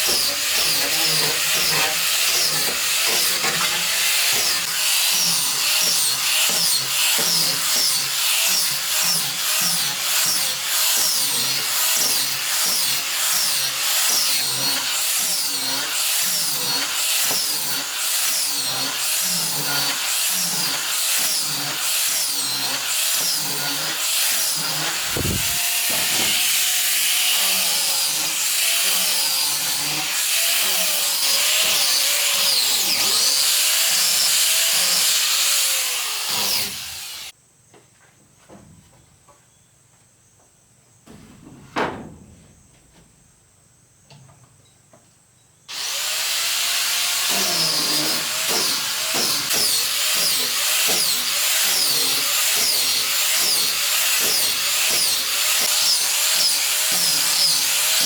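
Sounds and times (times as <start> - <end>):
power tool cutting wood: 0.0 - 37.3, 45.7 - 58.0.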